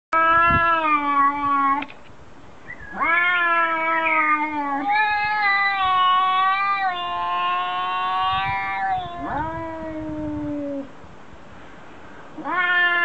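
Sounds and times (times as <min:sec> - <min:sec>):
cats yowling: 0:00.2 - 0:01.9, 0:02.8 - 0:10.9, 0:12.4 - 0:13.0.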